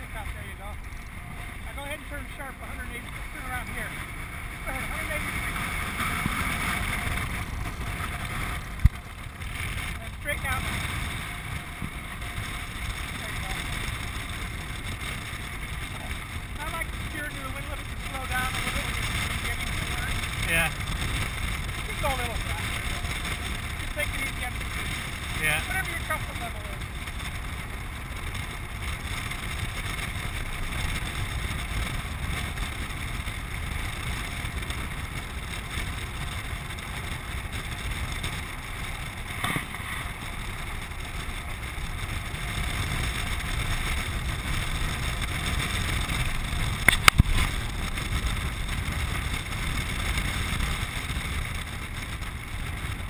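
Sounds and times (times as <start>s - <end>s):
low rumble of craft: 0.0s - 53.0s.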